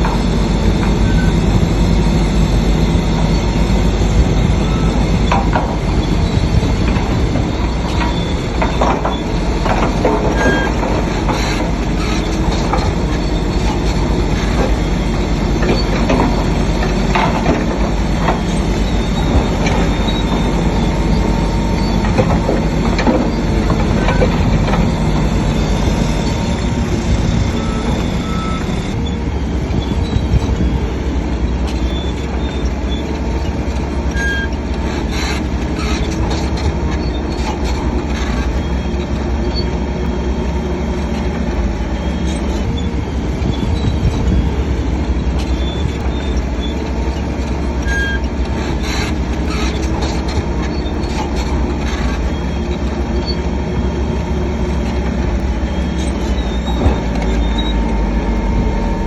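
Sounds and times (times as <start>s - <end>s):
bulldozer diesel engine running: 0.0s - 59.0s
steel tracks squeaking and clanking: 0.0s - 59.0s.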